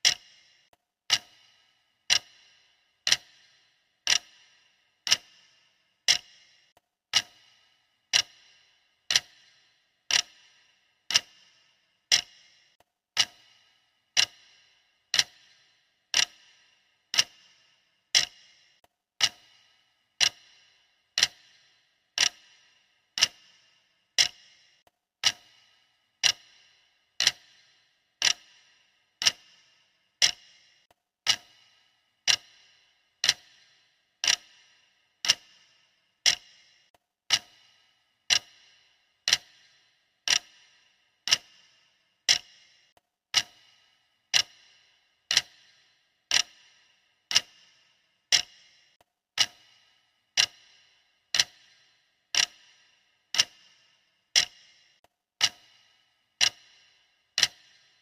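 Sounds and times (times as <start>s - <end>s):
clock ticking with metallic ring: 0.0s - 58.0s.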